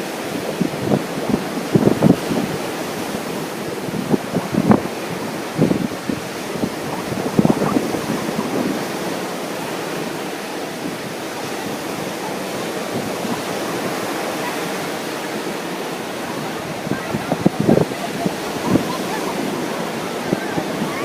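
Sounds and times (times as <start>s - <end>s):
ocean surf washing in: 0.0s - 21.0s
wind buffeting microphone: 0.0s - 21.0s.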